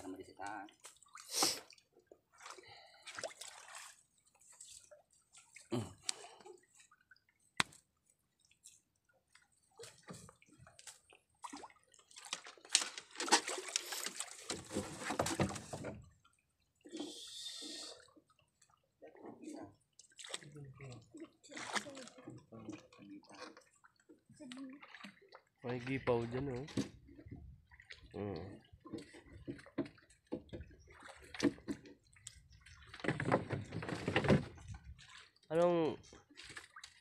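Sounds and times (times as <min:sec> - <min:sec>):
water dripping and splashing: 0:00.0 - 0:37.0.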